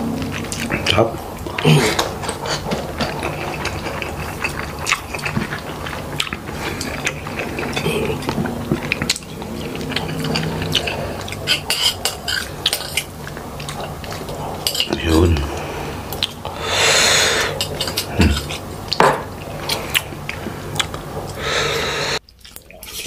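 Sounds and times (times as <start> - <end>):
chewing crispy food: 0.0 - 16.6, 17.5 - 21.4, 22.2 - 23.0.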